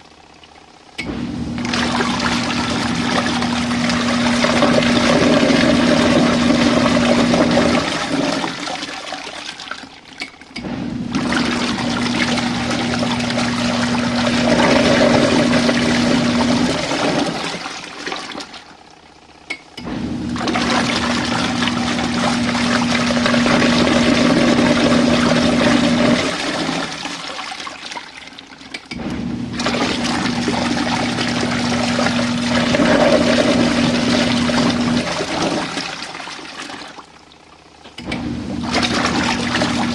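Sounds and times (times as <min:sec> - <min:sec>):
washing machine motor humming: 0:00.0 - 0:39.9
water churning: 0:00.5 - 0:18.8, 0:19.9 - 0:37.4, 0:38.1 - 0:39.9.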